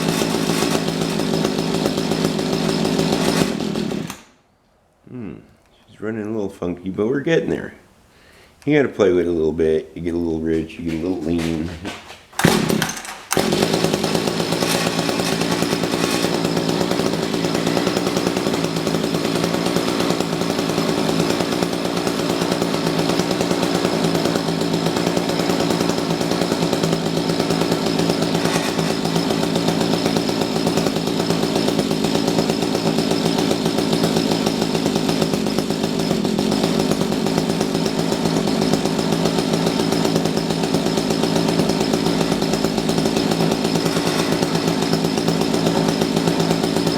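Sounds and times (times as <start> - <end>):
small engine running unevenly: 0.0 - 4.4, 12.4 - 46.9.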